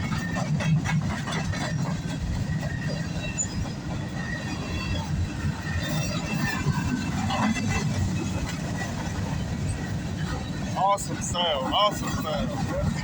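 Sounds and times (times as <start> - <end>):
wheels clicking over rail joints: 0.0 - 13.0.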